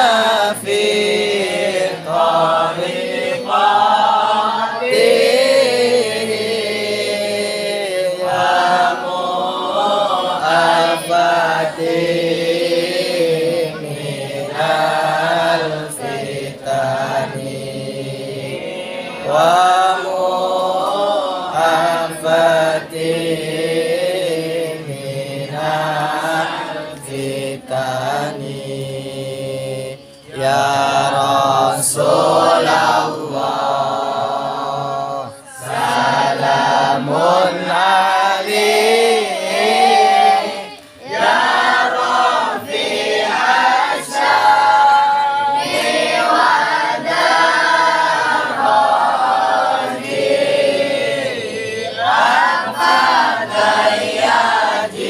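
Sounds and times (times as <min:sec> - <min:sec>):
group of men and boys chanting: 0:00.0 - 0:55.0.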